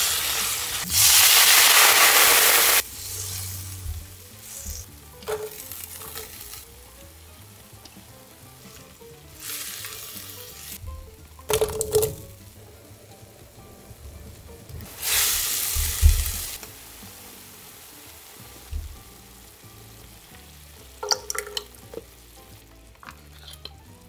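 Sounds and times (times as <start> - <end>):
seafood sizzling in a hot wok: 0.0 - 11.4, 12.2 - 24.0.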